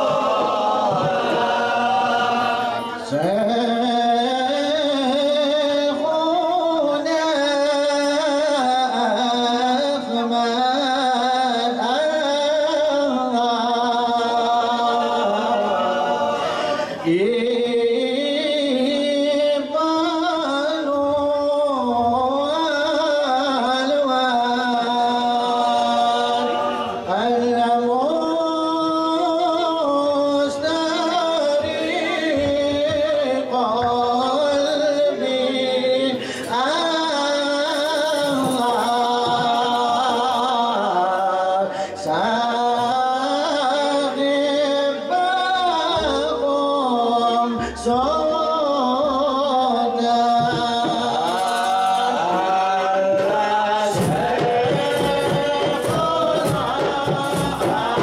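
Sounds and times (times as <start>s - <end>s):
men chanting devotional song: 0.0s - 58.0s.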